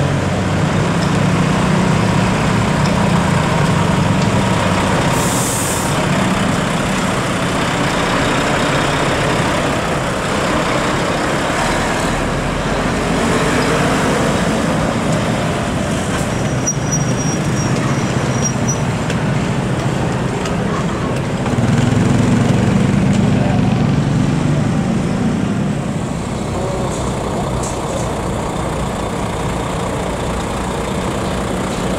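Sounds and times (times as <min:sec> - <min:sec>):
truck diesel engine running: 0:00.0 - 0:16.7, 0:18.8 - 0:31.9
road traffic noise: 0:00.0 - 0:31.9.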